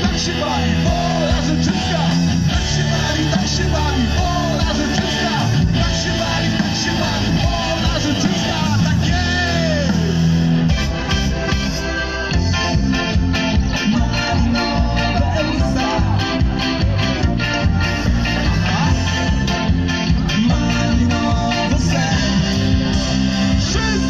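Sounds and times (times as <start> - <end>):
person singing: 0.0 - 10.1, 12.5 - 24.0
electric guitar: 0.0 - 24.0
live rock band playing: 0.0 - 24.0.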